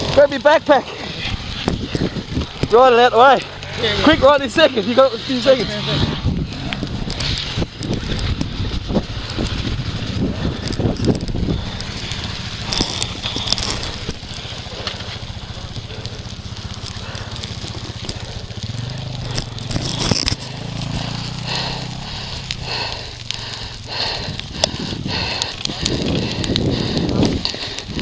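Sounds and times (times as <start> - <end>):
dirt bike engine running: 0.0 - 28.0
sharp knocks and crackles: 0.0 - 28.0.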